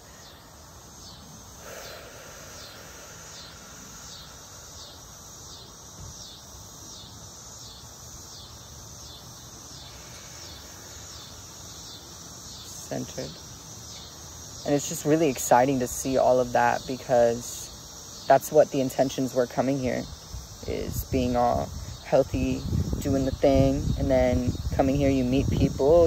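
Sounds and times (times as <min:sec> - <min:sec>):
faint steady tone: 0:00.0 - 0:26.0
insects chirping: 0:00.0 - 0:26.0.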